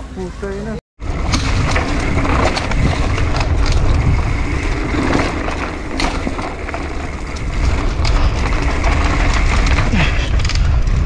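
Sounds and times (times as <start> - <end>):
bike clicks and rattles: 1.0 - 11.0
tyres rumbling on dirt: 1.0 - 11.0.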